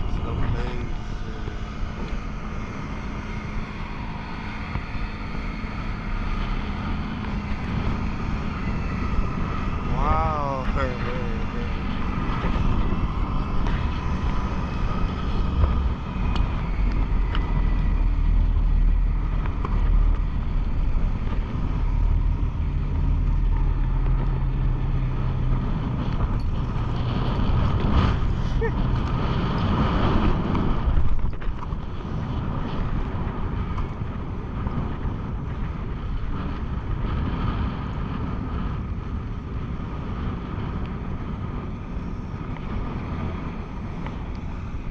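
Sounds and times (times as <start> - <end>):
boat engine humming: 0.0 - 44.9
wind blowing across microphone: 0.0 - 44.9.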